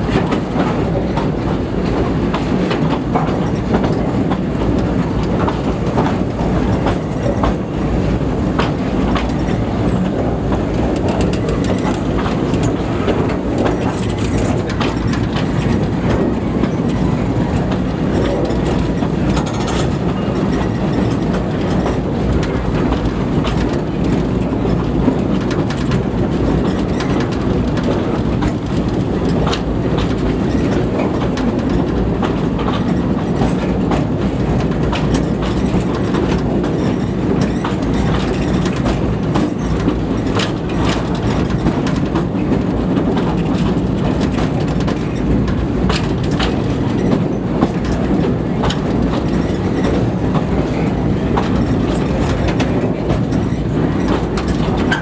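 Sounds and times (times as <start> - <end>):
rail joint clicks and knocks: 0.0 - 55.0
rumble of wheels on rail: 0.0 - 55.0.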